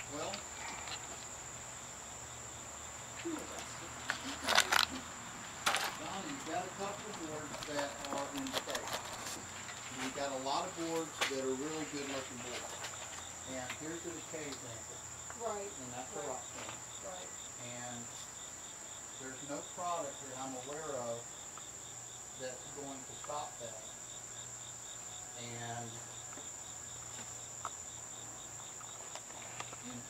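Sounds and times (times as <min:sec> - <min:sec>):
insects high-pitched trill: 0:00.0 - 0:30.0
rapid insect chirping: 0:00.0 - 0:30.0.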